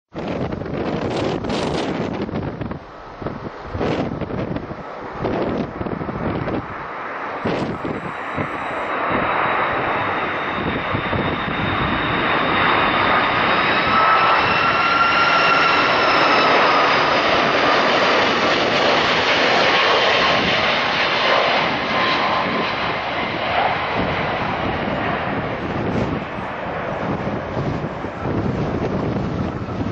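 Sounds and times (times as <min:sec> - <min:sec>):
jet airliner rush and whine: 0:00.1 - 0:29.9.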